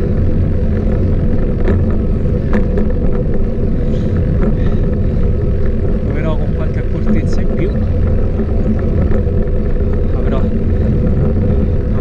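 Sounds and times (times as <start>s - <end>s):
bike tyres rolling on asphalt: 0.0s - 12.0s
low wind rumble: 0.0s - 12.0s.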